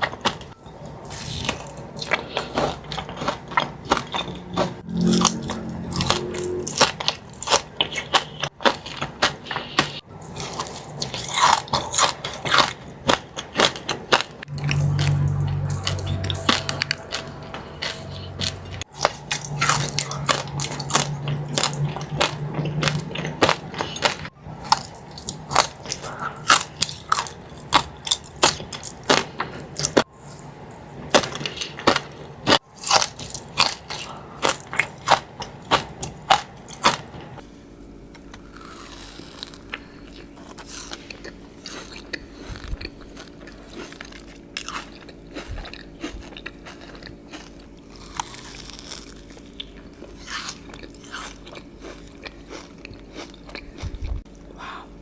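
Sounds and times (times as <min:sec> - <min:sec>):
crunchy chewing of cookie: 0:00.0 - 0:55.0.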